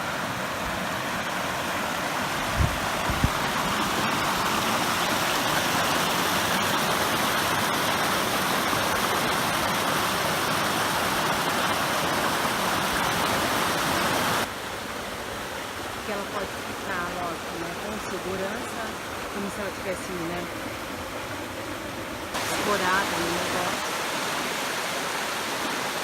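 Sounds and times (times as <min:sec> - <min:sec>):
waterfall rushing: 0:00.0 - 0:20.5, 0:22.3 - 0:26.0.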